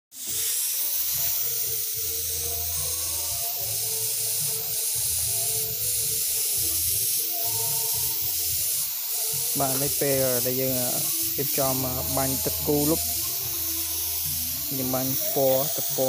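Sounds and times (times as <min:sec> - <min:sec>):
spray gun hissing: 0:00.2 - 0:16.0.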